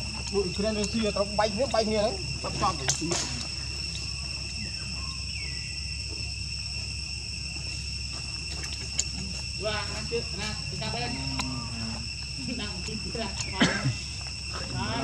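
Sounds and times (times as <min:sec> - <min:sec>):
high-pitched insect trilling: 0:00.0 - 0:15.0.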